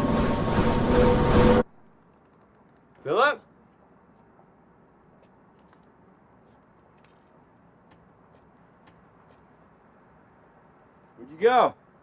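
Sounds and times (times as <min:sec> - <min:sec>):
high-pitched insect trill: 0:00.9 - 0:12.0.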